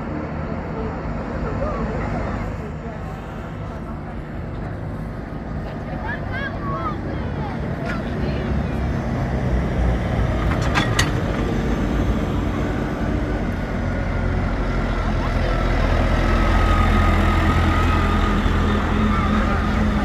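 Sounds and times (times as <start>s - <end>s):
tractor engines rumbling: 0.0s - 20.0s.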